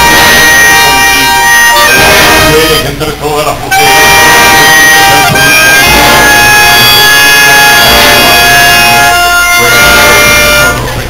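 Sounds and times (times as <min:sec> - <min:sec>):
street band playing a march: 0:00.0 - 0:11.0.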